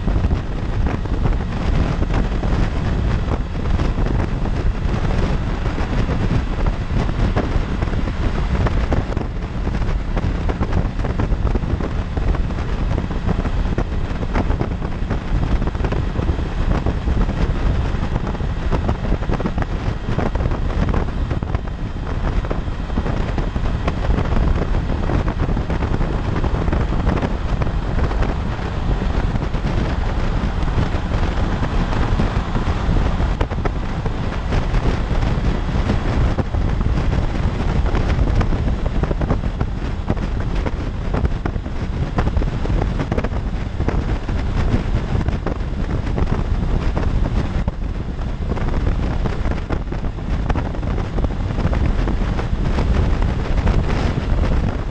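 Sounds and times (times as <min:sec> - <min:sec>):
road and traffic noise: 0:00.0 - 0:54.9
wind rushing over microphone: 0:00.0 - 0:54.9.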